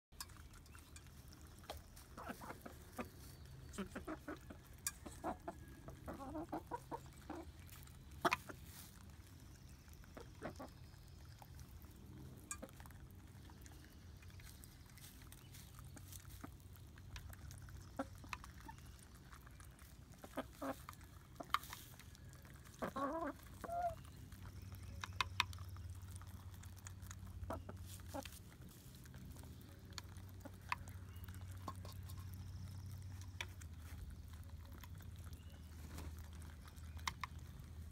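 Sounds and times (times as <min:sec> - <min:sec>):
hens clucking: 0:00.2 - 0:37.9.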